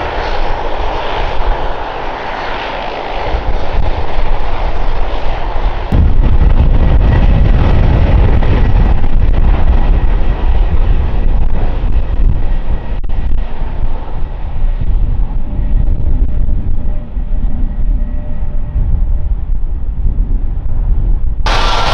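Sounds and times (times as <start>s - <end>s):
jet airliner engines rumbling: 0.0s - 21.9s.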